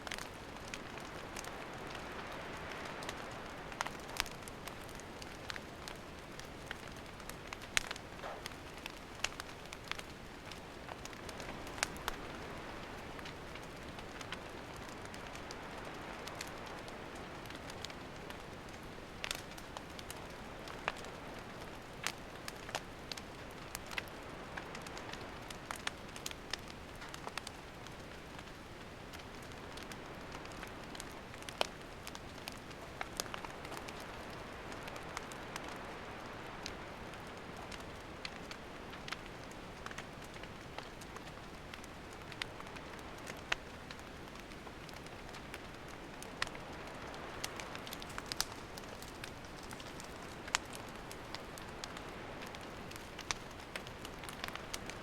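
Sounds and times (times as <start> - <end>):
campfire hissing: 0.0 - 55.0
wood crackling and popping: 0.0 - 55.0.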